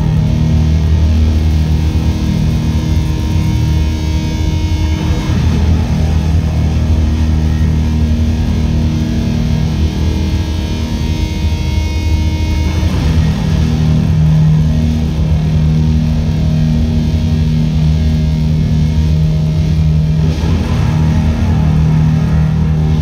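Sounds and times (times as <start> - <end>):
bass guitar droning: 0.0 - 23.0
electric guitar droning: 0.0 - 23.0.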